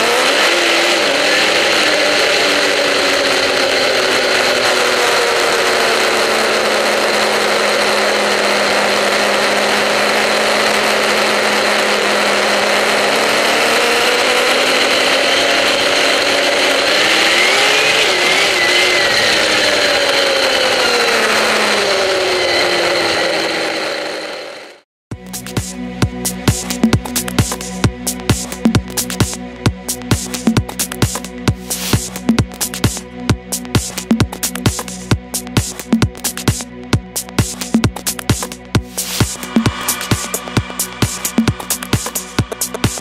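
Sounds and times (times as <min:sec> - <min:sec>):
snowmobile engine revving: 0:00.0 - 0:24.8, 0:25.4 - 0:43.0.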